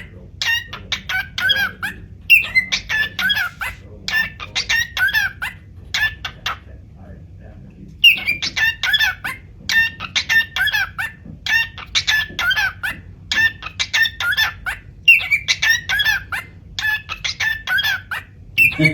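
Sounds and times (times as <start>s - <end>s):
cockatiel chirping and whistling: 0.0s - 6.7s, 8.0s - 18.9s.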